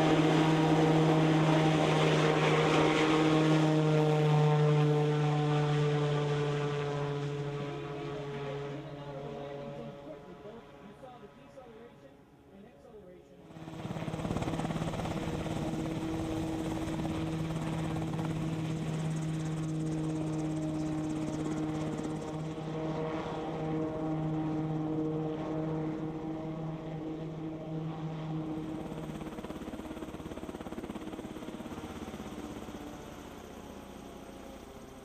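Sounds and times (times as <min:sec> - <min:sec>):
helicopter drone: 0:00.0 - 0:35.0.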